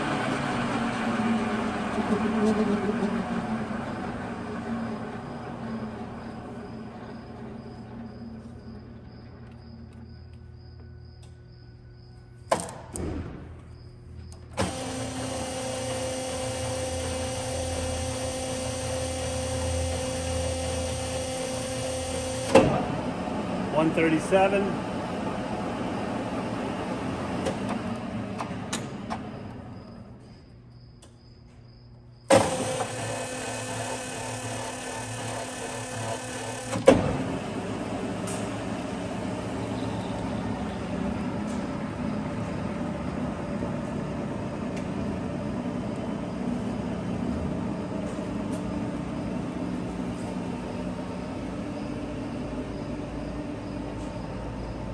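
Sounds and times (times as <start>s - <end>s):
lathe motor humming: 0.0s - 9.0s, 14.6s - 28.6s, 32.4s - 54.8s.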